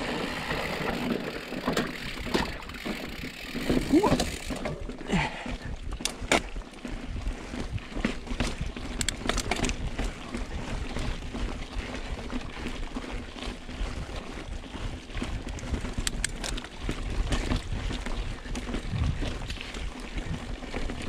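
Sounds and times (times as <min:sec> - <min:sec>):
bike clicks and rattles: 0:00.0 - 0:21.0.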